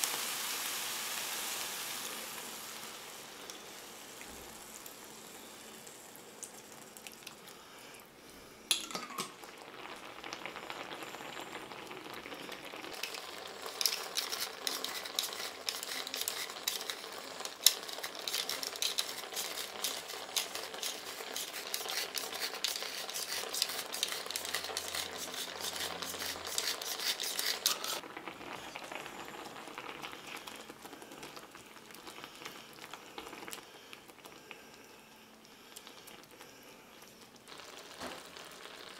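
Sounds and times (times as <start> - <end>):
sauce sizzling in a frying pan: 0.0 - 7.8, 8.7 - 35.7, 37.3 - 38.9.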